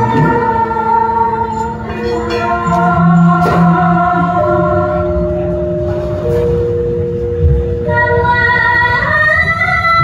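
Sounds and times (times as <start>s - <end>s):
gamelan music: 0.0s - 10.0s.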